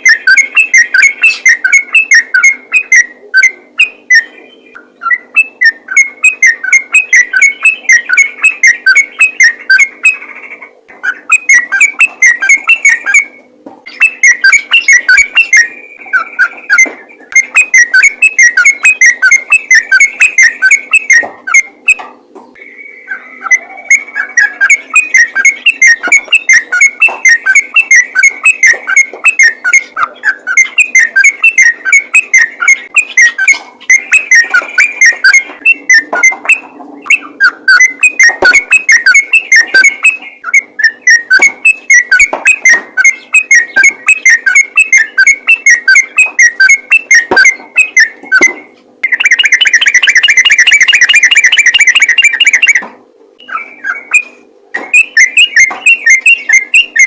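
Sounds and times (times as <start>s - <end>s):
bird singing whistled notes: 0.0s - 10.3s, 11.0s - 22.0s, 22.6s - 52.8s, 53.4s - 57.0s.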